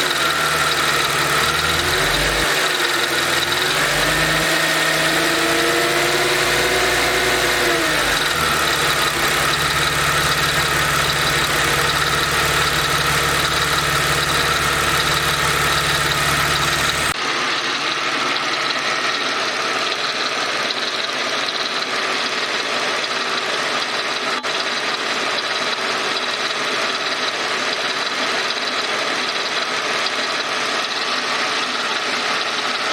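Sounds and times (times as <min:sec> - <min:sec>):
car engine idling: 0:00.0 - 0:32.9
engine rattle: 0:00.0 - 0:32.9.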